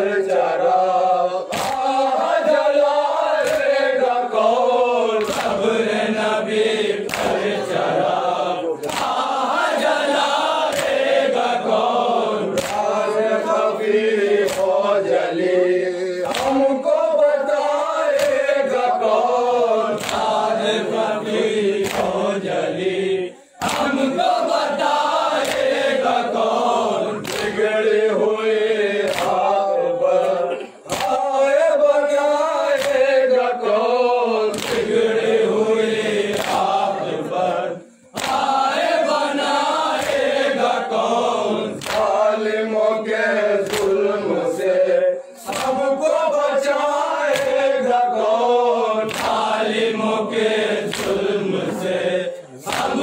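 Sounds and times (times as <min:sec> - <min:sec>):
lead reciter voice: 0:00.0 - 0:53.0
men chanting in chorus: 0:00.0 - 0:53.0.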